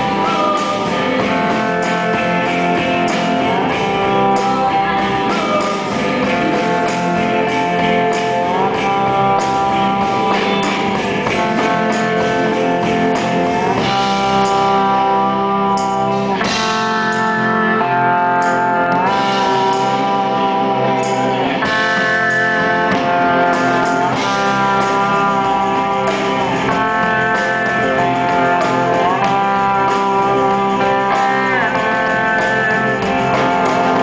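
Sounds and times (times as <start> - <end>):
electric guitar sliding notes: 0.0 - 34.0
live band music: 0.0 - 34.0.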